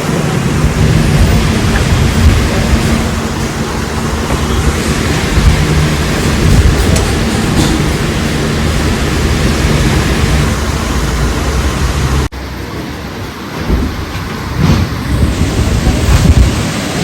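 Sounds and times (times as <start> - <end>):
wind noise on microphone: 0.0 - 12.3, 13.4 - 17.0
tractor diesel engine running: 0.0 - 17.0.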